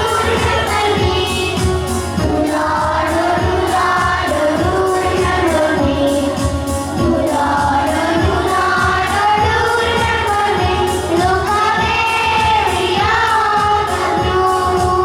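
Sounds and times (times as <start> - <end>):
children singing: 0.0 - 15.0
instrumental accompaniment with beat: 0.0 - 15.0.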